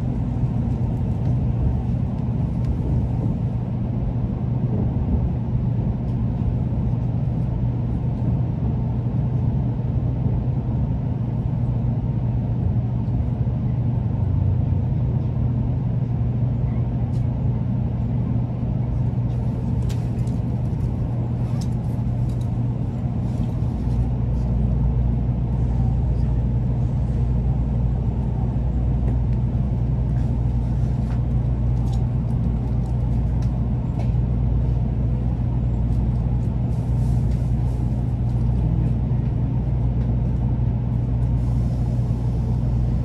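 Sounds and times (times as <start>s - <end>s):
train interior running hum: 0.0s - 43.0s.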